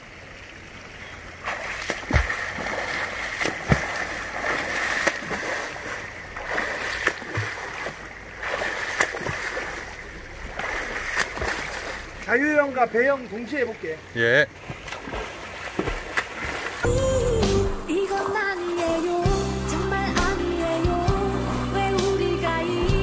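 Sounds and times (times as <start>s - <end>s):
churned water washing: 0.0s - 23.0s
swimmer splashing: 0.8s - 16.9s, 17.6s - 20.9s.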